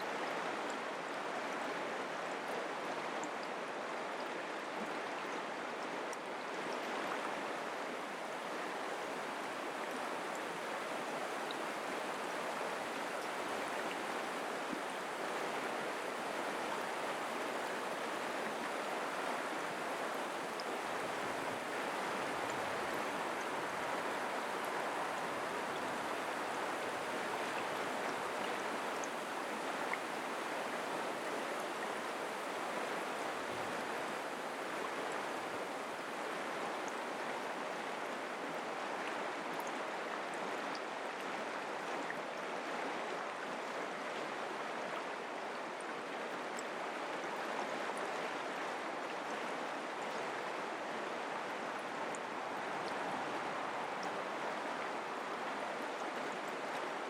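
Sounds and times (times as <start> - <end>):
creek water running over rocks: 0.0 - 57.0.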